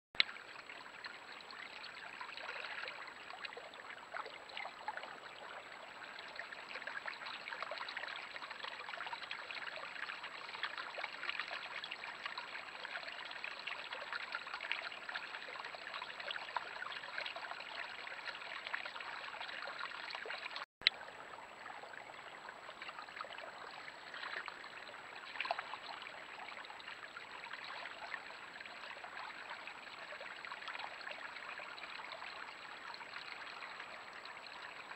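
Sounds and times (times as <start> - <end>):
stream water trickling: 0.2 - 34.9.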